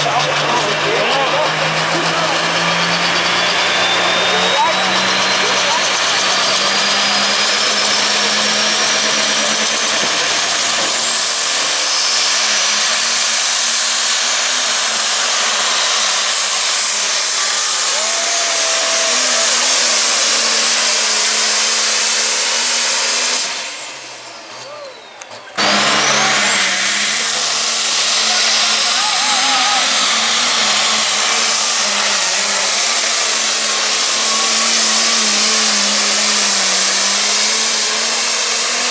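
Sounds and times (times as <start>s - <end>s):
diesel tractor engine whining: 0.0s - 38.9s.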